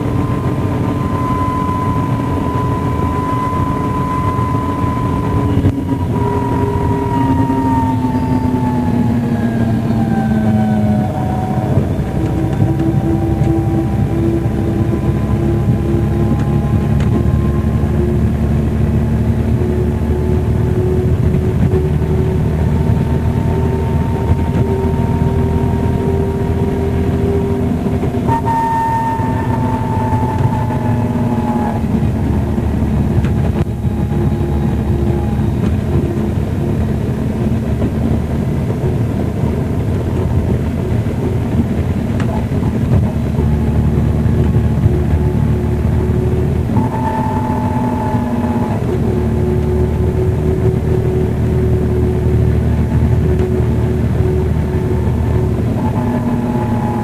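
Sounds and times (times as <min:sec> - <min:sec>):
bus engine while driving: 0:00.0 - 0:57.0.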